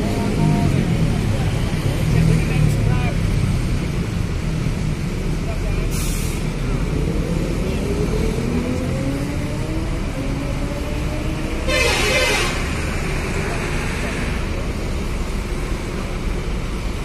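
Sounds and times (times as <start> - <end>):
bus diesel engine pulling away: 0.0 - 17.0.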